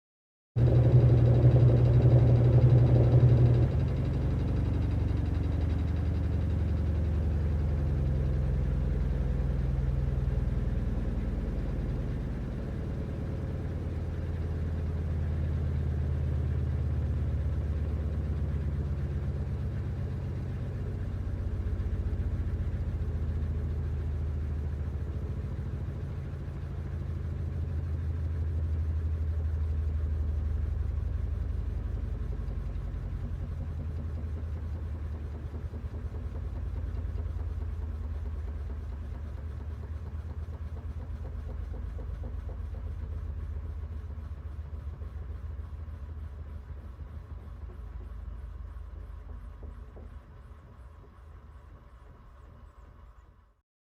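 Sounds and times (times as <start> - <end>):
laundry machine motor hum: 0.6 - 52.1.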